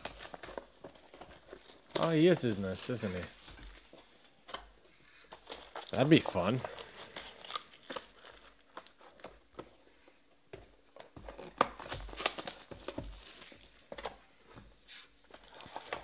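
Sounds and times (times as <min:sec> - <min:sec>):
card wrappers rustling: 0:00.0 - 0:09.9, 0:10.9 - 0:14.3, 0:15.2 - 0:16.0.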